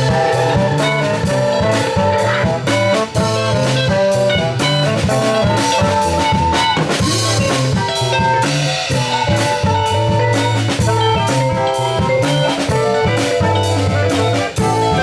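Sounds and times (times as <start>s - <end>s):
bass guitar: 0.0s - 15.0s
drum kit beat: 0.0s - 15.0s
electric guitar: 0.0s - 15.0s
saxophone: 0.0s - 15.0s.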